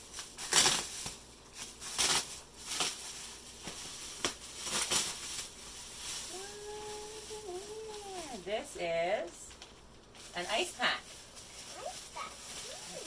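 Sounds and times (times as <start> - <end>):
packaging crinkling and tearing: 0.0 - 8.4, 9.7 - 13.0
steady hummed tone: 0.0 - 13.0.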